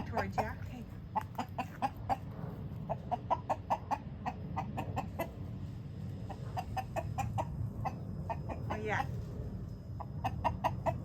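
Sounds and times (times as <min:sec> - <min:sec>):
chicken clucking: 0:00.0 - 0:05.4, 0:06.3 - 0:09.1, 0:10.0 - 0:11.0.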